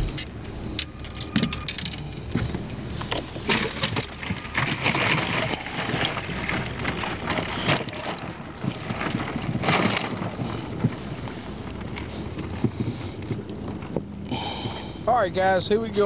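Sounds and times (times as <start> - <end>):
fishing rods clattering on boat deck: 0.0 - 16.0.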